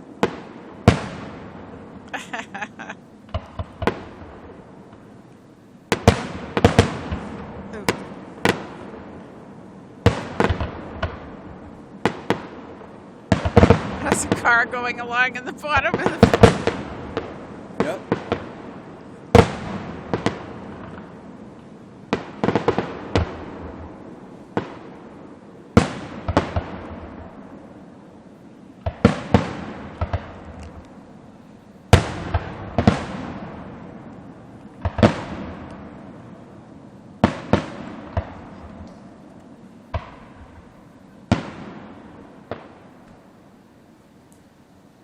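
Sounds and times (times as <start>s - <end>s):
fireworks booming bangs: 0.0s - 43.4s.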